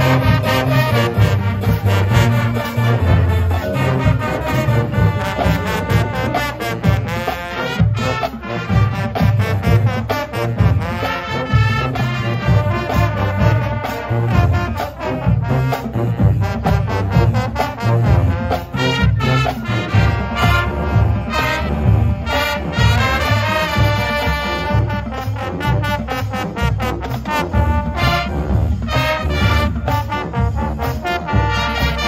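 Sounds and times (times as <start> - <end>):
brass section playing: 0.0 - 32.0
drum line beat: 0.0 - 32.0.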